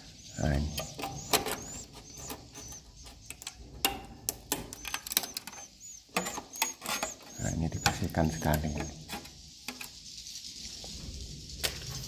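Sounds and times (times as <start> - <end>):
swiftlets chirping: 0.0 - 10.7.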